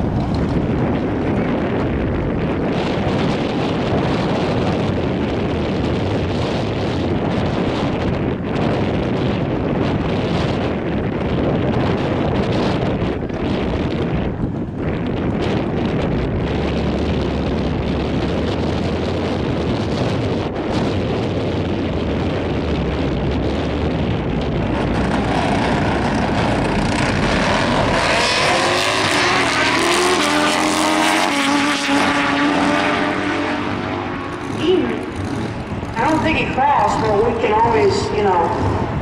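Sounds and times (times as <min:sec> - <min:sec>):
motorcycle engines revving: 0:00.0 - 0:39.0
wind buffeting microphone: 0:00.0 - 0:39.0.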